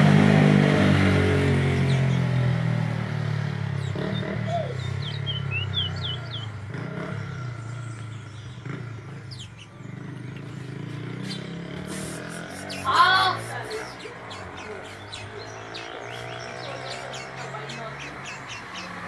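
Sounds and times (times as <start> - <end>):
vehicle engine hum: 0.0 - 19.0
songbird chirping: 1.7 - 19.0.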